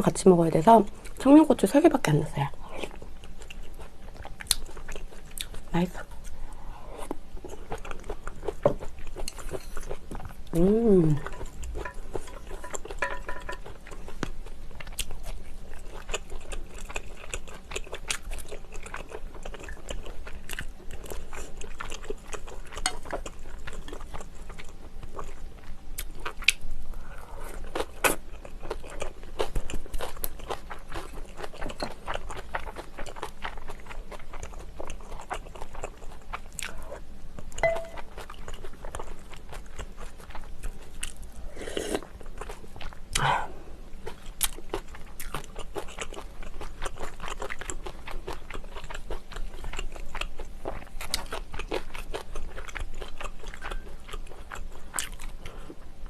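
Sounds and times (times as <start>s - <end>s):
person chewing crunchy food: 2.6s - 55.9s.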